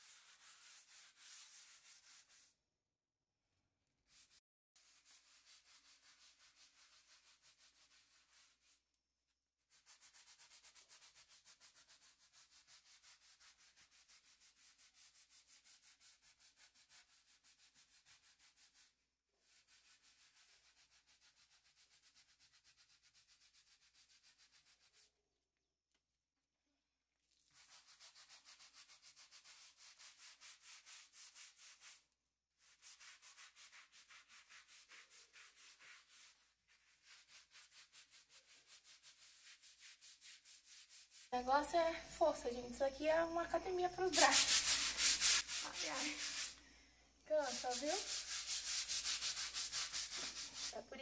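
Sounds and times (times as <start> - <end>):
brush scrubbing plaster wall: 0.0 - 2.7, 4.0 - 9.0, 9.6 - 25.4, 27.2 - 41.8, 42.5 - 46.6, 47.2 - 51.0.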